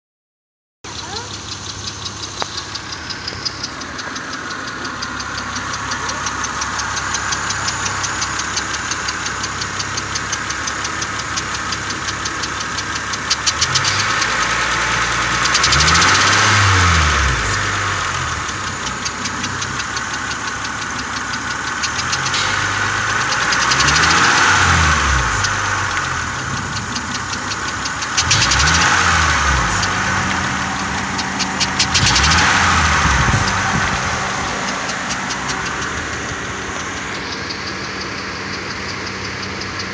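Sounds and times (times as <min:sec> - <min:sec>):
car engine idling and revving: 0:00.8 - 0:39.9.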